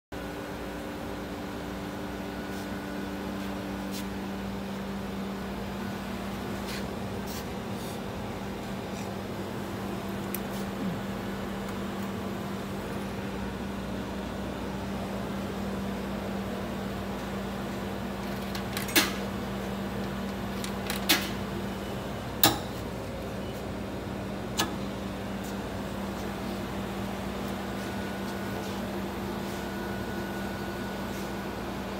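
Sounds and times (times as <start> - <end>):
refrigeration machinery humming: 0.2 - 31.9.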